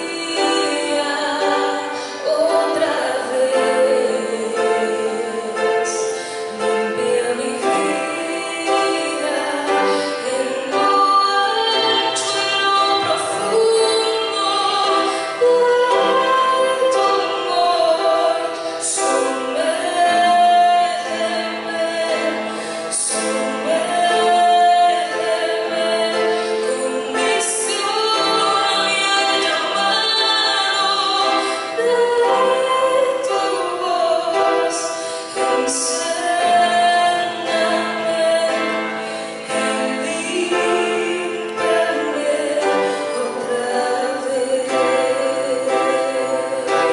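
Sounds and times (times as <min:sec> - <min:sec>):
instrumental backing music: 0:00.0 - 0:46.9
woman singing: 0:00.0 - 0:46.9.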